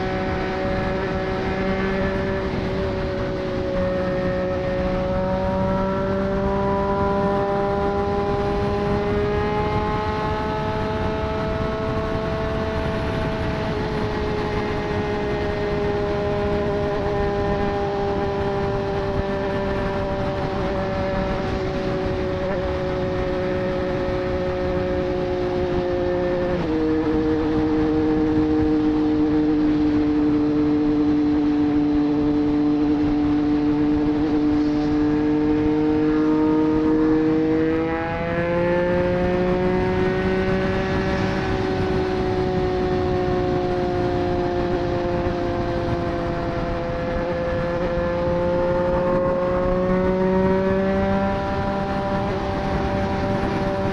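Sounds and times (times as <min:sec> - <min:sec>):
motorcycle engine at speed: 0:00.0 - 0:53.9.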